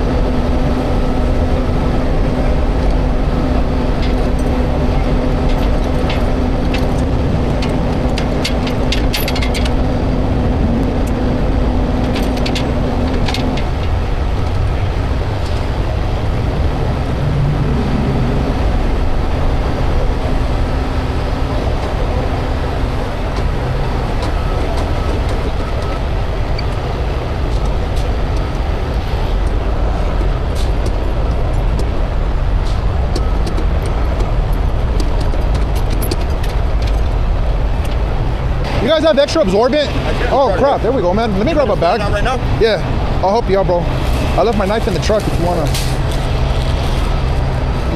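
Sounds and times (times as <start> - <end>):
diesel engine rumble: 0.0 - 47.9
steady hum: 0.0 - 47.9.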